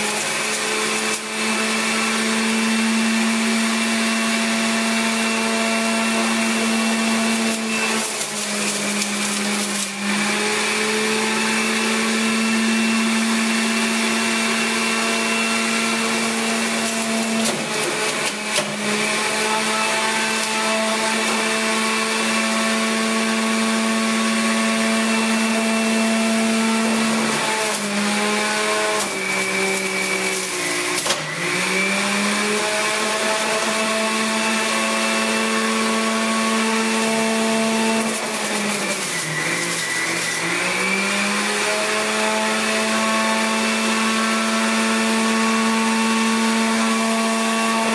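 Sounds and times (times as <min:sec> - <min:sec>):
juice extractor motor whine: 0:00.0 - 0:47.9.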